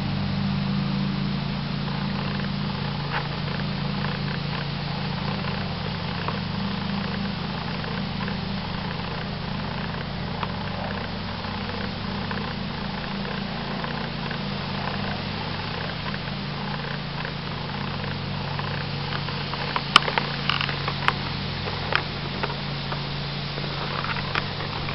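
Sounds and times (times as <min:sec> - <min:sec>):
constant hiss: 0:00.0 - 0:24.9
low hum: 0:00.0 - 0:24.9.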